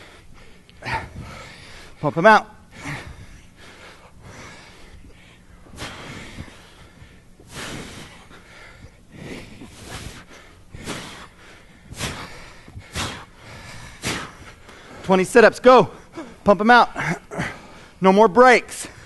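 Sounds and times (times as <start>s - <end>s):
men breathing heavily: 0.0s - 18.1s, 18.7s - 19.0s.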